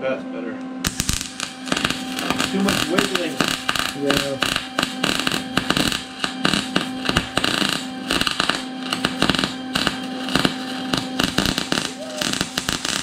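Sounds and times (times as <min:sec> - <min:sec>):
electrical hum: 0:00.0 - 0:13.0
welding arc crackling: 0:00.8 - 0:13.0.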